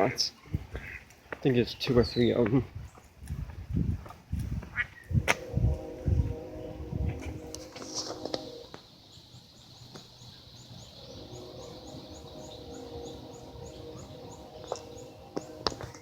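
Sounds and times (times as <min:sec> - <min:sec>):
songbird chirping: 0:00.0 - 0:03.6, 0:04.8 - 0:16.0.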